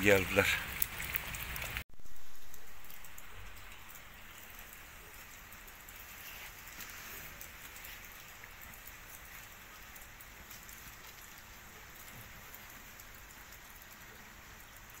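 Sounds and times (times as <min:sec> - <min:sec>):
light rain falling: 0:00.0 - 0:15.0
raindrop ticks: 0:00.0 - 0:15.0.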